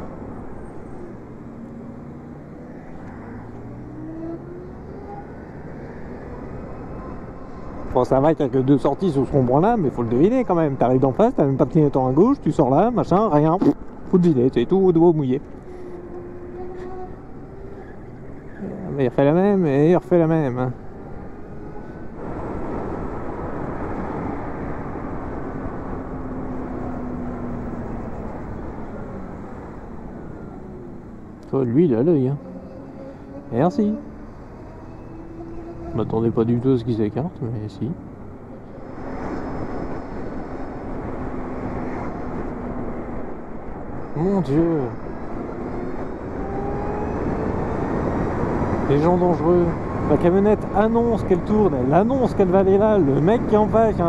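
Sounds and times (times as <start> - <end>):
wind and road rumble: 0.0 - 54.0.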